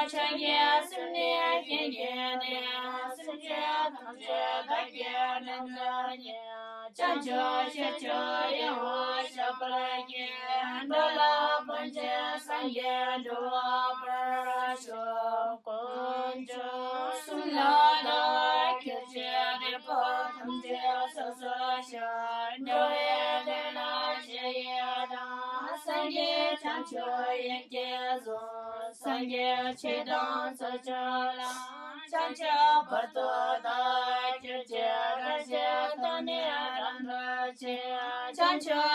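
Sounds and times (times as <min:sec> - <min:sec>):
high female voices singing: 0:00.0 - 0:38.9.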